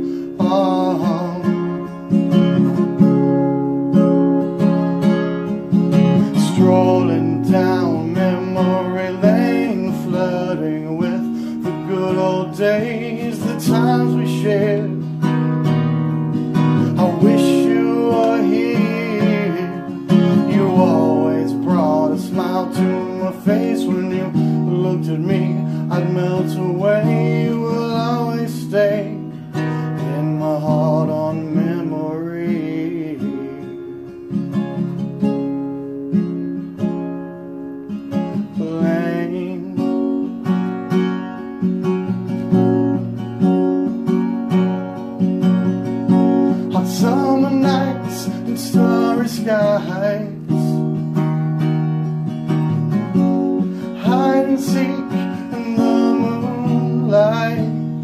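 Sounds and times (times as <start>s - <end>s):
acoustic guitar strumming chords: 0.0s - 58.0s.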